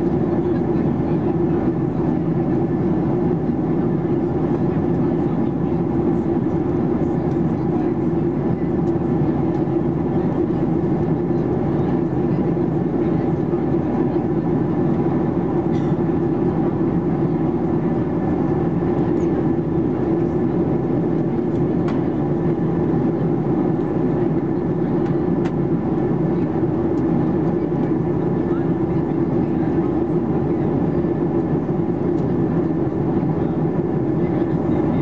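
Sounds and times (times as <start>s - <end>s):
airplane cabin drone: 0.0s - 35.0s.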